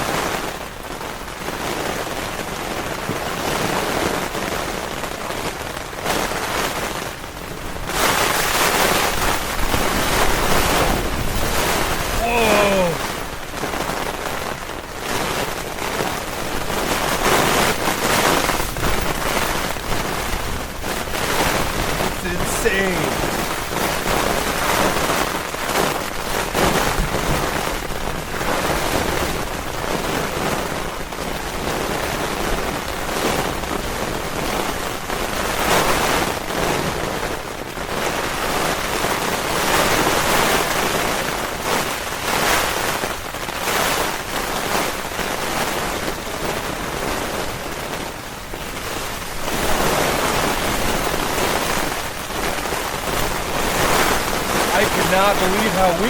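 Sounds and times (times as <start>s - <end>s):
heavy rain: 0.0s - 56.0s
wind gusts: 6.1s - 37.4s, 38.1s - 56.0s.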